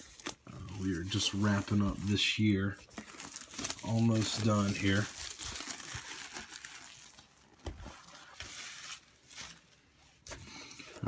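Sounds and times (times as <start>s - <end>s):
plastic shrink wrap crinkling: 0.0s - 11.0s.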